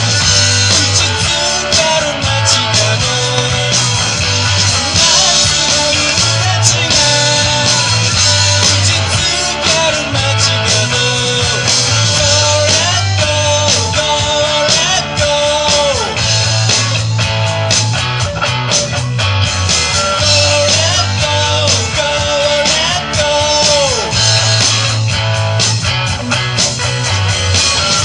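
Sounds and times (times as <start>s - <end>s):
bass guitar: 0.0s - 28.0s
drums: 0.0s - 28.0s
electric guitar sliding lead line: 0.0s - 28.0s.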